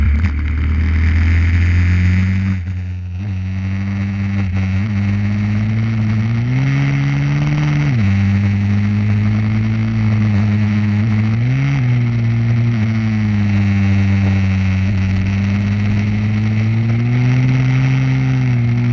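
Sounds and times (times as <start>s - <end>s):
pit bike engine revving: 0.0s - 18.9s.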